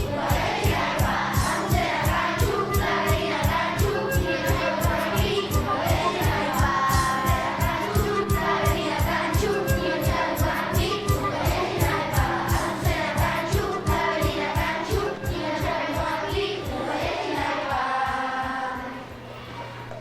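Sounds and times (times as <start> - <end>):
voices singing together: 0.0 - 19.4.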